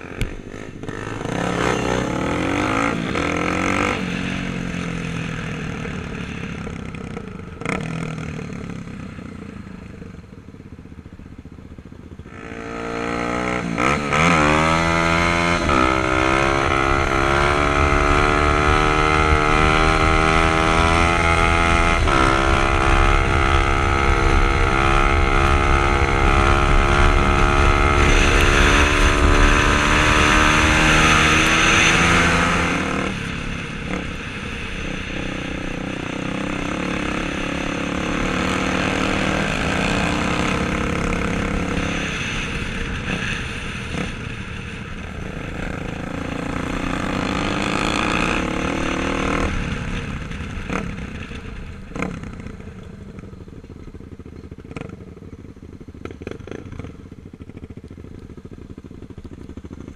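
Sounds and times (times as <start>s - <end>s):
dirt bike engine revving: 0.0s - 8.9s, 12.3s - 52.7s.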